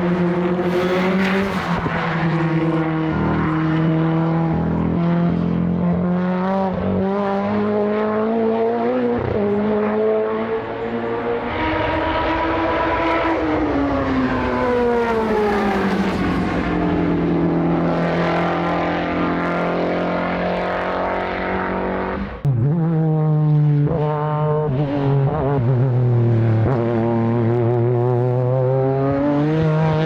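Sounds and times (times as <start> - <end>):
race car engine running hard: 0.0 - 30.0.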